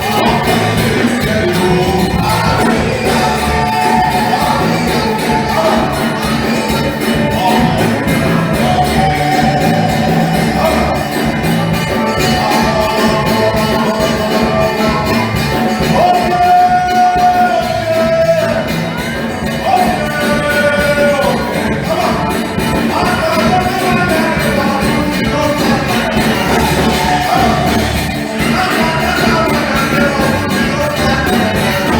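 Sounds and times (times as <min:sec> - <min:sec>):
instruments playing: 0:00.0 - 0:31.9
steady percussion beat: 0:00.0 - 0:31.9
voices singing: 0:00.0 - 0:31.9.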